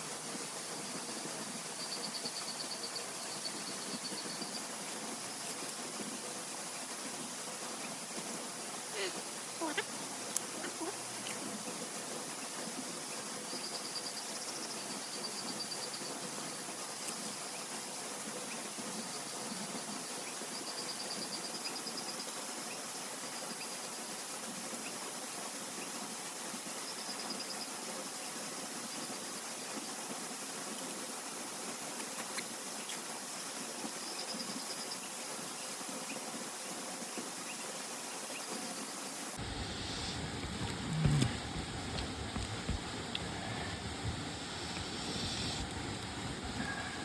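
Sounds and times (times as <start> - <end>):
rain hissing: 0.0 - 20.6, 22.3 - 47.0
insects trilling: 0.0 - 43.7.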